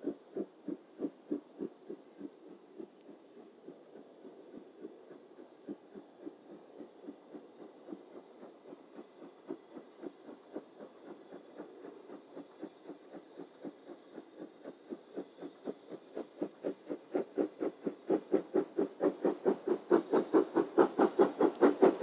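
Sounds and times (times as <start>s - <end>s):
steam locomotive chuffing: 0.0s - 22.0s.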